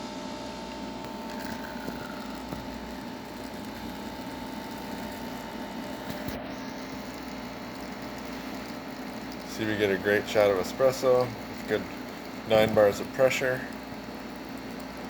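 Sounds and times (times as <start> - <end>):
espresso machine pump humming: 0.0 - 15.0.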